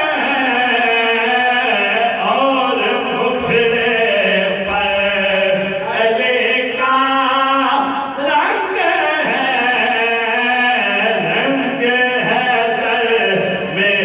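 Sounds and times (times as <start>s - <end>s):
men singing over a loudspeaker: 0.0s - 14.0s.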